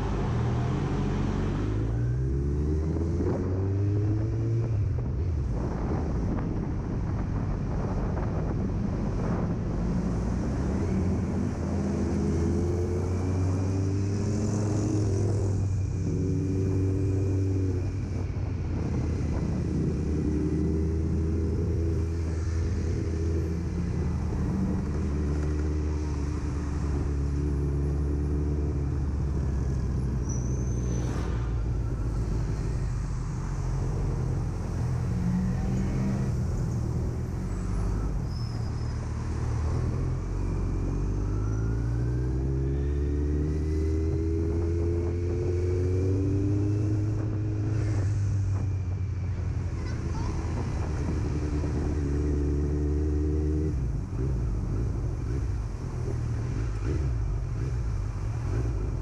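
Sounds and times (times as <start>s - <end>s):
wind and road noise: 0.0s - 59.0s
motorcycle engine revving: 10.5s - 38.2s, 38.8s - 59.0s.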